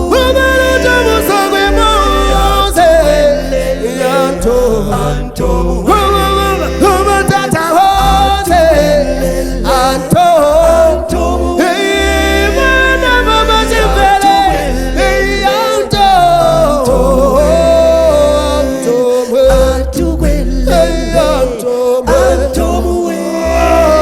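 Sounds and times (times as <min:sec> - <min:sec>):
a cappella vocal group singing: 0:00.0 - 0:24.0.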